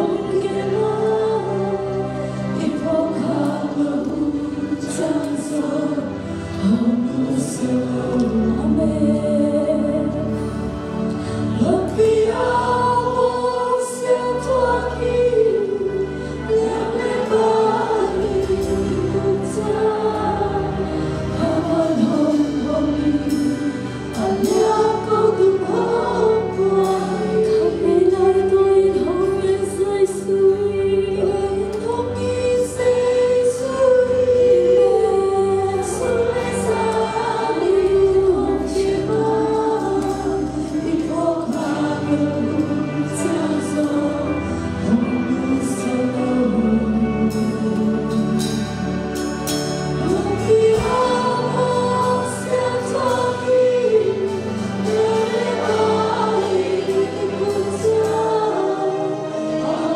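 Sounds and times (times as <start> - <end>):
backing singers: 0.0 - 59.9
drums: 0.0 - 59.9
keyboard: 0.0 - 59.9
woman singing lead: 0.0 - 59.9.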